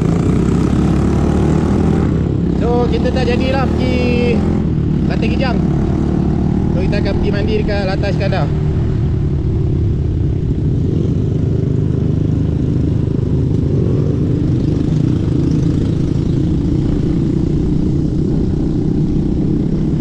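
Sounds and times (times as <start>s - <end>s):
motorcycle engine running: 0.0s - 20.0s
wind and road rumble: 0.0s - 20.0s.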